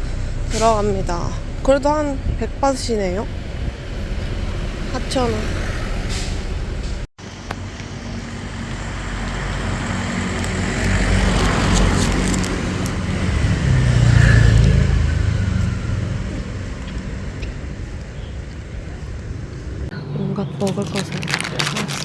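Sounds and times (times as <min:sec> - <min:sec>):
vehicle engine passing close: 0:00.0 - 0:19.9
street traffic rumbling: 0:00.0 - 0:22.0.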